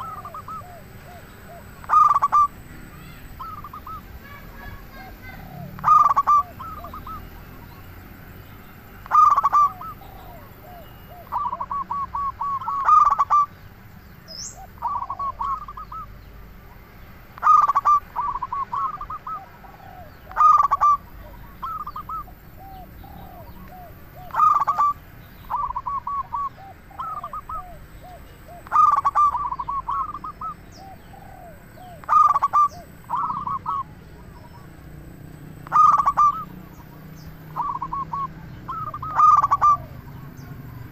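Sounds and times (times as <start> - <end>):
dove cooing: 0.0 - 7.9, 9.0 - 13.6, 14.3 - 16.2, 17.4 - 40.9.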